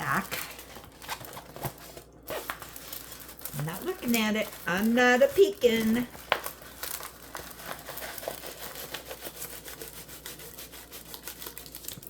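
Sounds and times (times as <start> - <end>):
canvas and plastic film crinkling: 0.0 - 12.0.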